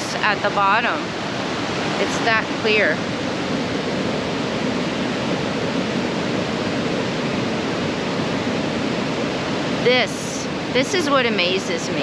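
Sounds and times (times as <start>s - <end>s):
waterfall and river rushing: 0.0s - 12.0s.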